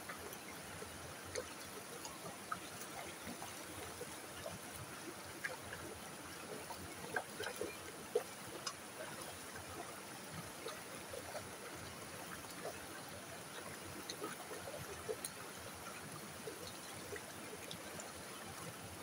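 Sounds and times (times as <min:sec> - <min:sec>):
creek water trickling over rocks: 0:00.0 - 0:19.0.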